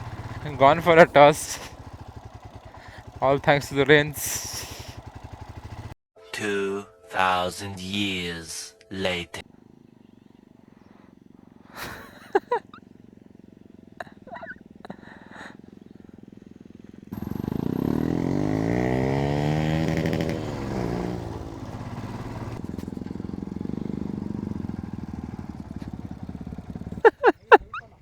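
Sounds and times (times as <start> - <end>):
motorcycle engine revving: 0.0 - 6.0, 9.4 - 28.0.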